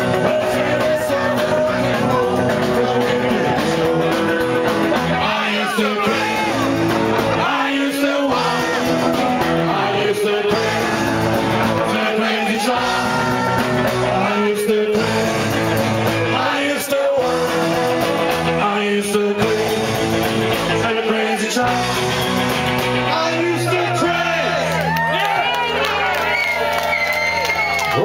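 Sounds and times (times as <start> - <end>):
crowd singing along: 0.0 - 24.8
rock band playing live: 0.0 - 28.0.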